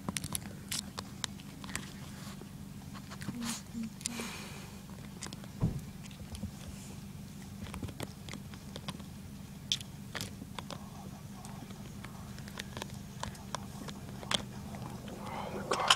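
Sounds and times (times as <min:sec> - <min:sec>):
dog teeth chewing strap: 0:00.0 - 0:04.2, 0:04.9 - 0:06.7, 0:07.3 - 0:15.9
low hum: 0:00.0 - 0:15.9.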